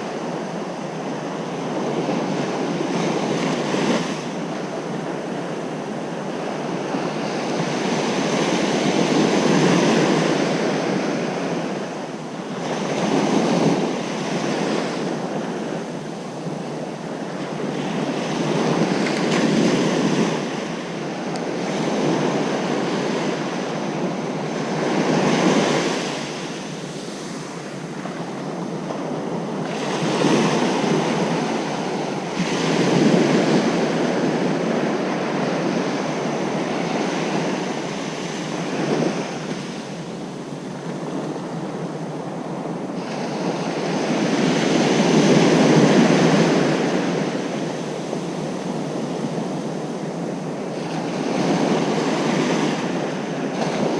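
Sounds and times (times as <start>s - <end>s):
ocean surf breaking: 0.0s - 53.9s
wind on microphone: 0.0s - 53.9s.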